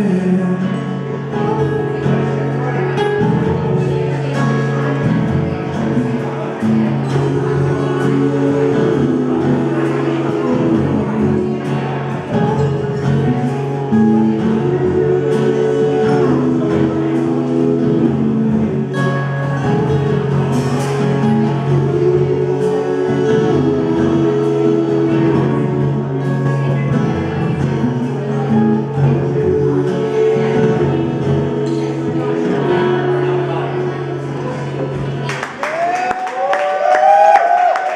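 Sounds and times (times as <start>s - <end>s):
acoustic guitar: 0.0s - 37.9s
person singing: 0.0s - 37.9s
live band music: 1.3s - 35.4s.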